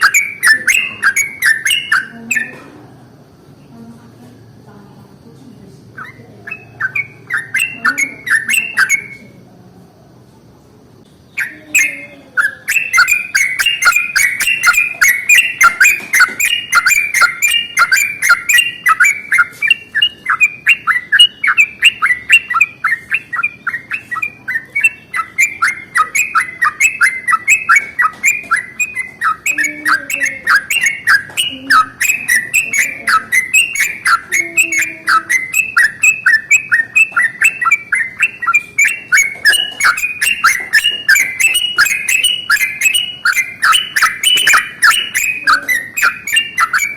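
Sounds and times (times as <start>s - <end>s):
bird singing rolling song: 0.0s - 3.8s, 5.2s - 9.5s, 11.0s - 46.9s.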